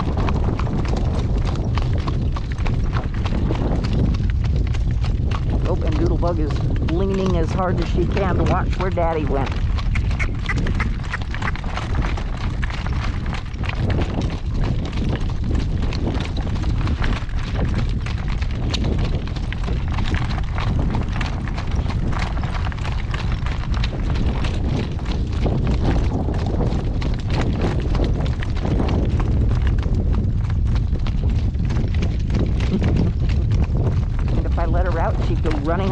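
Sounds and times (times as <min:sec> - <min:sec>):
horse hooves clip-clopping: 0:00.0 - 0:35.9
low rumble: 0:00.0 - 0:35.9.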